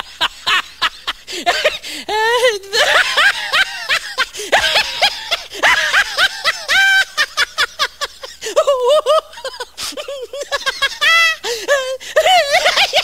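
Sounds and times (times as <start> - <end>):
person laughing high-pitched: 0.0 - 13.0.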